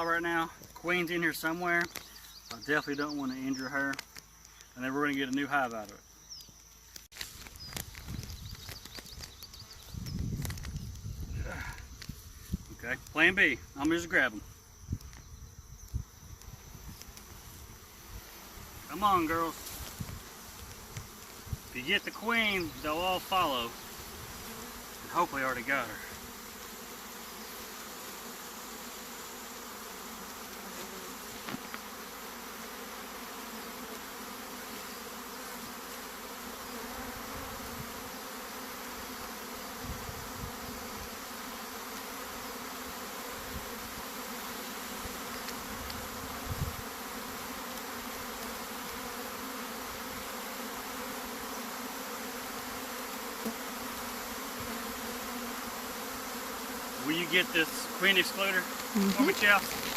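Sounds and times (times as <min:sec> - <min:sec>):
bee swarm buzzing: 0:00.0 - 0:59.9.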